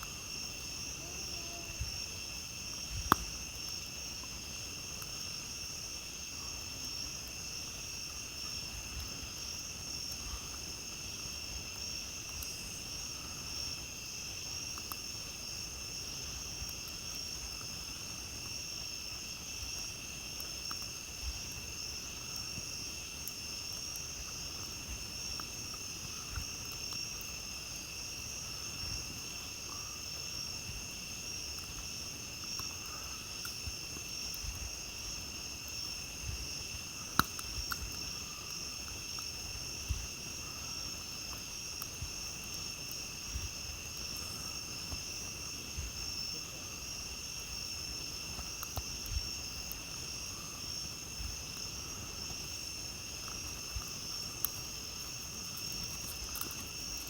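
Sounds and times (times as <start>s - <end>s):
crickets and night insects trilling: 0.0s - 57.0s
faint campfire crackles: 0.0s - 57.0s.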